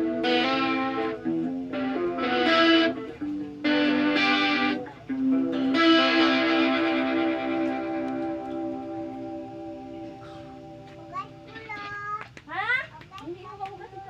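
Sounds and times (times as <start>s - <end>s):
distorted electric guitar chords: 0.0s - 11.8s.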